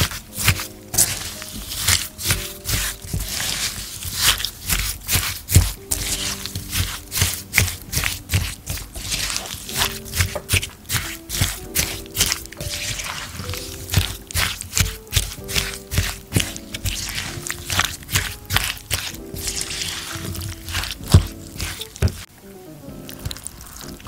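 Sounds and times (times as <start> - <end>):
spatula stirring in glass bowl: 0.0 - 22.3
soft background music: 0.0 - 24.0.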